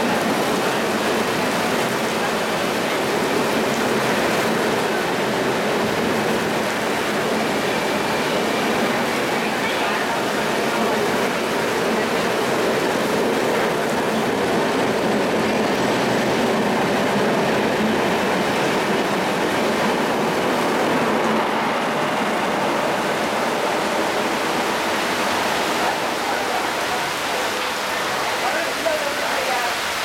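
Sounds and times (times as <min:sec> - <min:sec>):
heavy rain: 0:00.0 - 0:30.0
train wheels on rails: 0:00.0 - 0:30.0.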